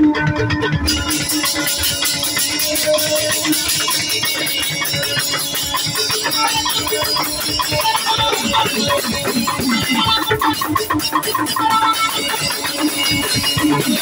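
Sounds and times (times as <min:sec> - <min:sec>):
live band music: 0:00.0 - 0:14.0
drum kit beat: 0:00.8 - 0:14.0.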